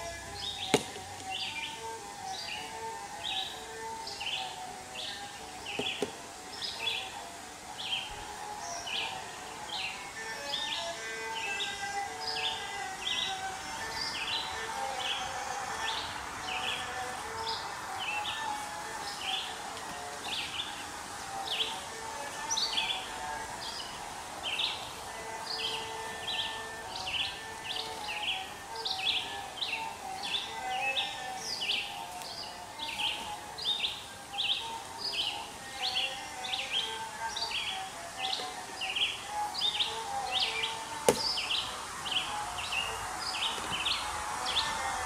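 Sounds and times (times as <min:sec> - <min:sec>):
songbird chirping: 0:00.0 - 0:45.0
steady outdoor hiss: 0:00.0 - 0:45.0.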